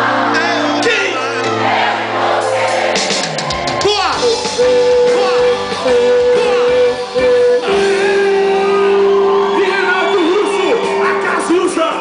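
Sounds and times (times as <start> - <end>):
live rock band playing: 0.0 - 12.0
voices shouting and singing: 0.0 - 12.0.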